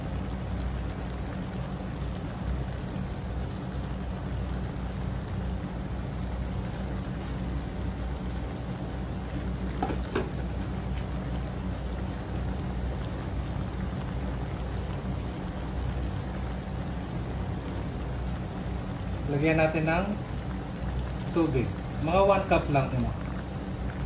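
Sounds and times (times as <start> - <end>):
meat sizzling in a wok: 0.0 - 24.0.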